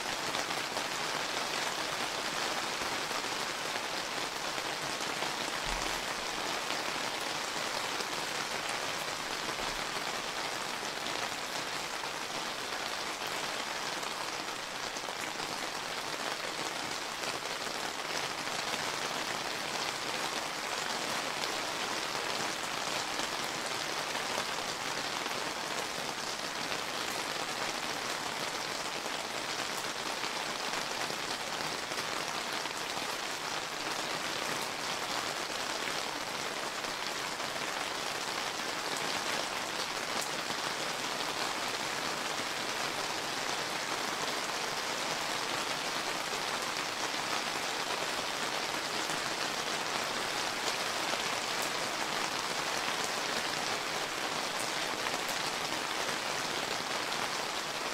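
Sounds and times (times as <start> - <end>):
steady rain pattering: 0.0 - 57.9.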